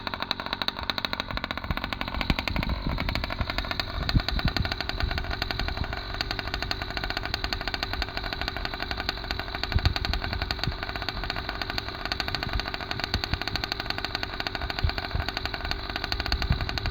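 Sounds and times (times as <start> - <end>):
two-stroke engine running: 0.0 - 16.9.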